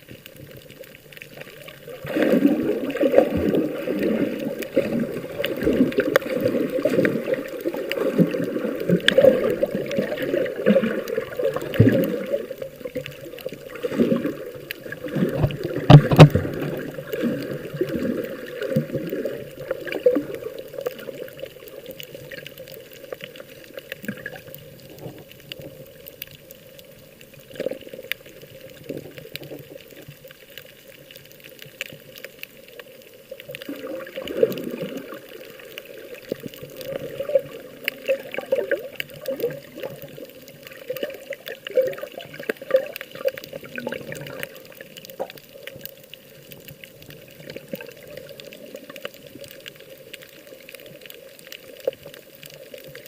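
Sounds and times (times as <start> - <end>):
sea water sloshing and splashing: 0.0 - 53.0.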